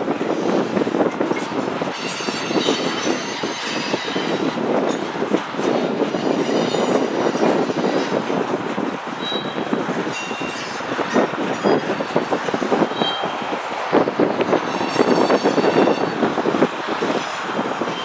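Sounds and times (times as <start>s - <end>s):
train wheels clattering on rails: 0.0s - 18.0s
high wheel squeals: 1.8s - 8.2s, 9.2s - 18.0s.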